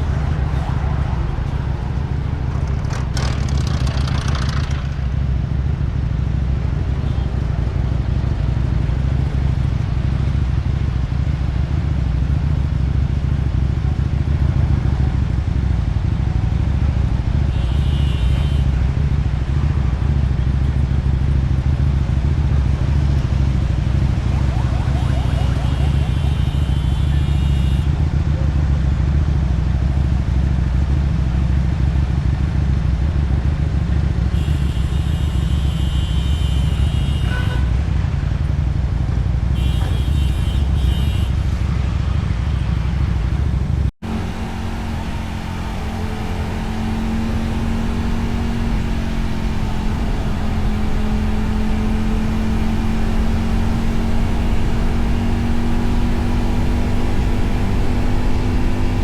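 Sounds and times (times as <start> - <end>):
motorcycle engine rumble: 0.0 - 59.0
wind: 0.0 - 59.0.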